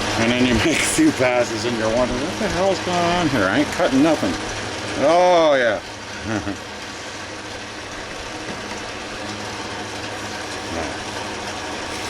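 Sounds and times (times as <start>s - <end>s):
metal lathe cutting: 0.0s - 12.0s.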